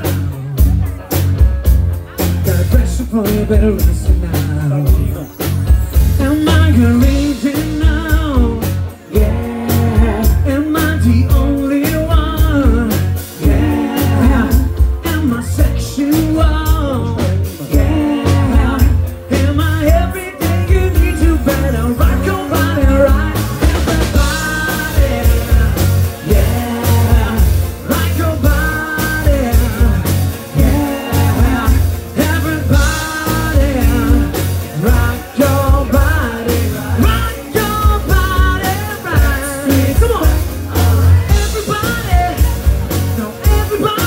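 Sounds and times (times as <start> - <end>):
man singing: 0.0 - 1.3, 2.1 - 44.0
live pop band playing: 0.0 - 44.0.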